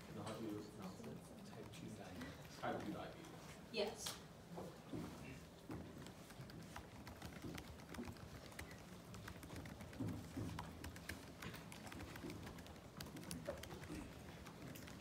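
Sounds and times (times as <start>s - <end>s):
laptop keyboard typing: 0.2s - 3.1s, 5.8s - 15.0s.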